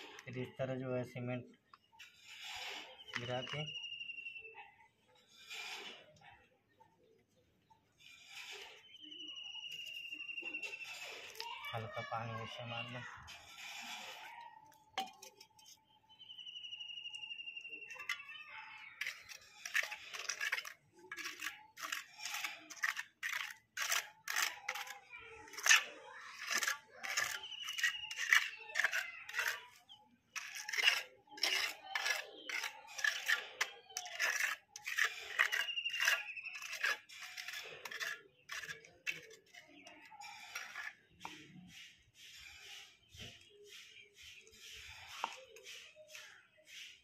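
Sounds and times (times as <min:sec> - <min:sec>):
trowel scraping wet cement: 0:00.0 - 0:01.2, 0:01.8 - 0:04.0, 0:05.1 - 0:06.2, 0:07.9 - 0:15.9, 0:17.0 - 0:47.0.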